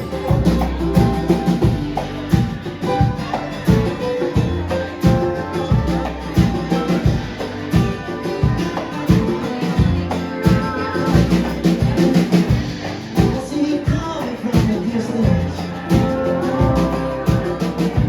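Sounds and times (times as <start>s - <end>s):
drum kit beat: 0.0s - 18.0s
live band playing: 0.0s - 18.0s.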